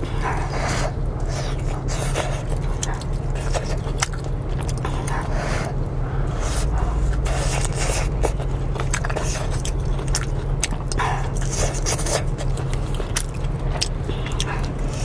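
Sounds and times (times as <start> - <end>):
person chewing noodles: 0.0 - 15.0
steady low hum: 0.0 - 15.0.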